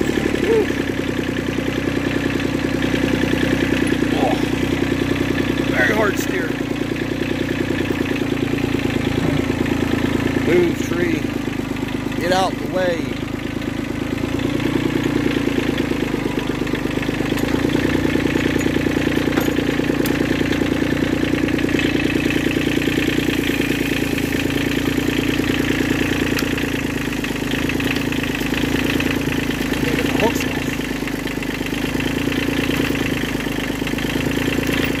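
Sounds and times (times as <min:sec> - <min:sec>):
diesel tractor engine running: 0:00.0 - 0:35.0.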